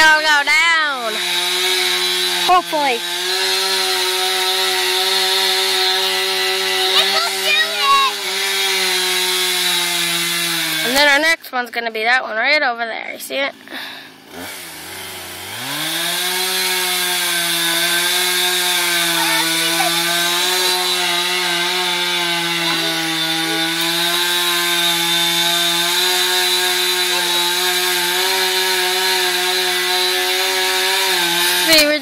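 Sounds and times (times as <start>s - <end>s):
chainsaw cutting wood: 0.0s - 11.4s, 13.5s - 32.0s.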